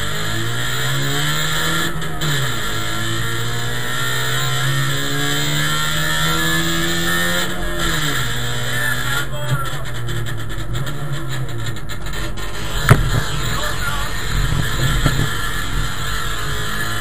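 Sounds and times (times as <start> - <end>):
two-stroke car engine accelerating: 0.0 - 17.0.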